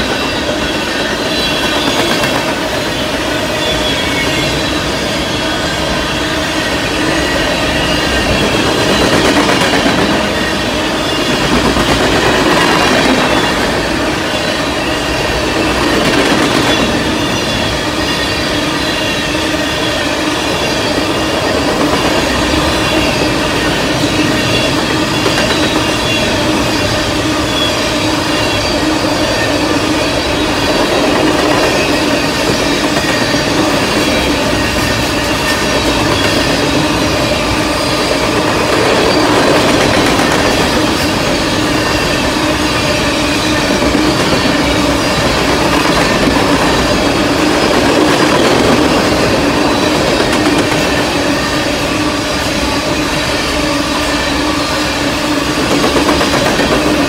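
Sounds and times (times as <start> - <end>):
steady ringing tones: 0.0 - 57.0
train wheels rumbling on rails: 0.0 - 57.0.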